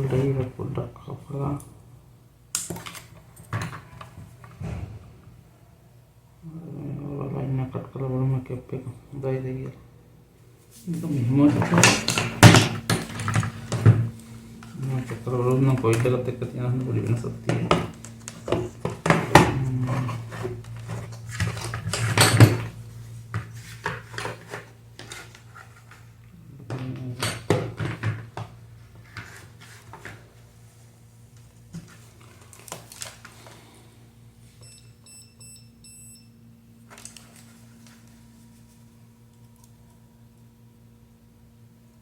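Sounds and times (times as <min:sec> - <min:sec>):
low electrical hum: 0:00.0 - 0:42.0.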